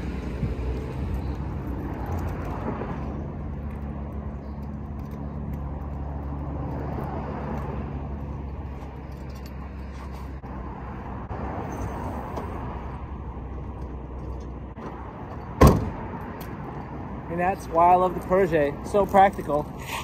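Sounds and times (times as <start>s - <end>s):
continuous noisy rumble: 0.0s - 20.0s.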